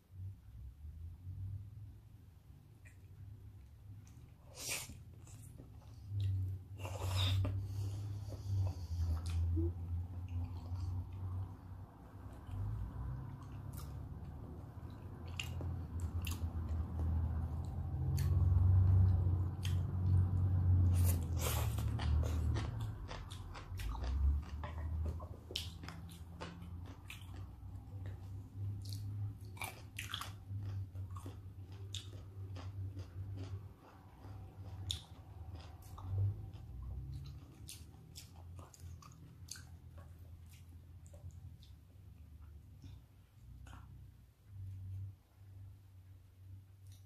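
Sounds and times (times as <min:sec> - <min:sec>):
wet chewing with mouth clicks: 0:04.0 - 0:44.9.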